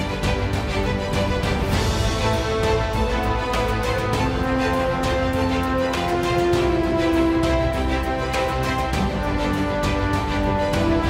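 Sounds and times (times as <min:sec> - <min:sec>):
low bass: 0:00.0 - 0:11.0
melodic background music: 0:00.0 - 0:11.0.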